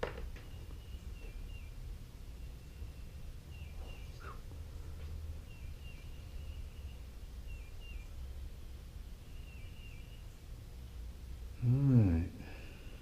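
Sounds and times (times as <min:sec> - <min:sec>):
low background rumble: 0:00.0 - 0:13.0
bird singing chirps: 0:00.3 - 0:11.0.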